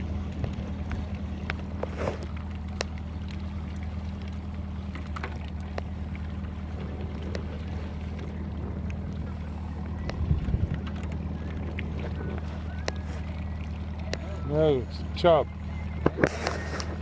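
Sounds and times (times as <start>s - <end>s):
outboard motor idling: 0.0s - 17.0s.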